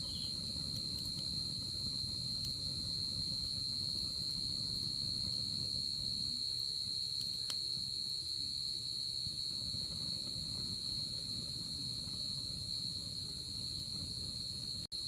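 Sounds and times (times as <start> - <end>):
faint fire pops: 0.0 - 15.0
night insects trilling: 0.0 - 15.0
wood fire crackling: 0.0 - 15.0.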